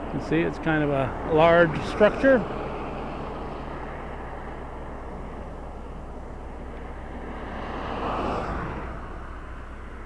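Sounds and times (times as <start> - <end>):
road traffic noise: 0.0 - 10.0
vehicle passing: 0.0 - 10.0.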